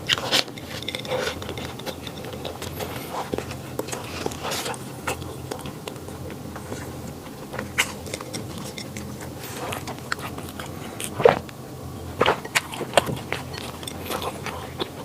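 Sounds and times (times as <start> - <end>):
person chewing flaky pastry: 0.0 - 15.0.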